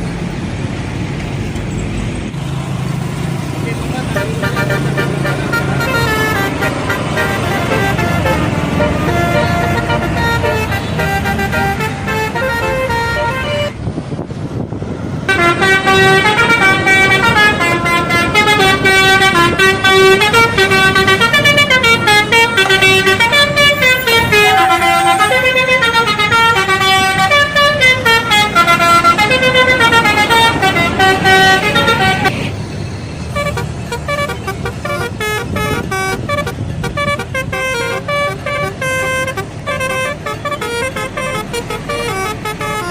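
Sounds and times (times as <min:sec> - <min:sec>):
air horns playing a tune: 0:04.1 - 0:13.8, 0:15.3 - 0:32.5, 0:33.4 - 0:42.9.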